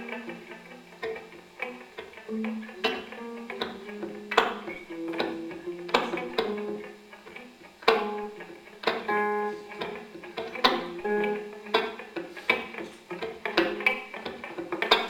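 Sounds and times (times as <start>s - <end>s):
electric guitars plucking notes: 0.0s - 15.0s.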